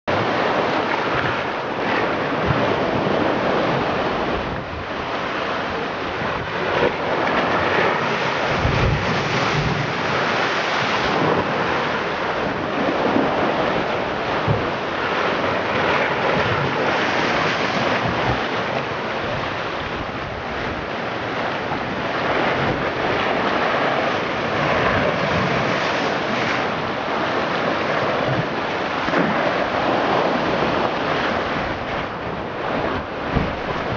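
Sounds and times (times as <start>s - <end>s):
surf rushing into rocky inlet: 0.1s - 33.9s.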